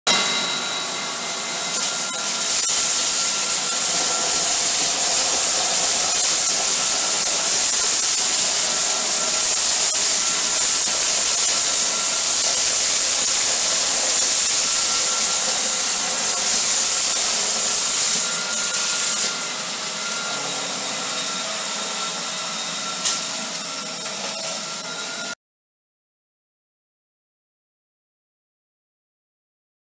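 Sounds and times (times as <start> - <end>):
vacuum cleaner whining: 0.1 - 25.4
suction hiss on tile floor: 1.1 - 25.3.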